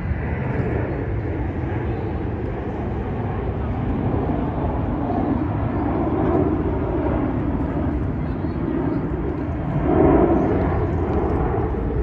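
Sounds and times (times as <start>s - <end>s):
low outdoor rumble: 0.0s - 12.0s
faint voices: 0.1s - 12.0s.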